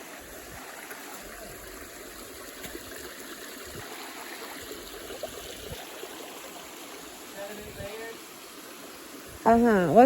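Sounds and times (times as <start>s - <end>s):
small stream flowing: 0.0s - 10.0s.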